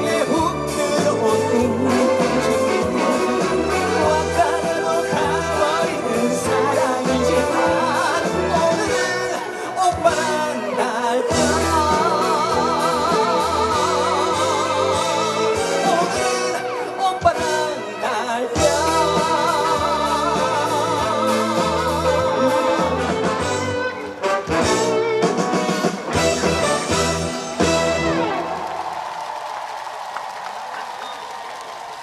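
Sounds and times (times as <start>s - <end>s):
trot music over loudspeakers: 0.0s - 29.0s.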